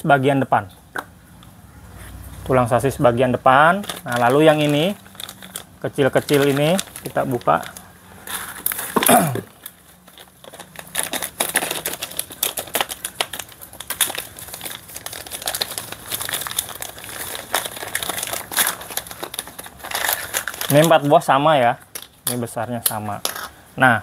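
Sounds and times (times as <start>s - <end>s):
plastic bags crinkling: 2.4s - 23.5s.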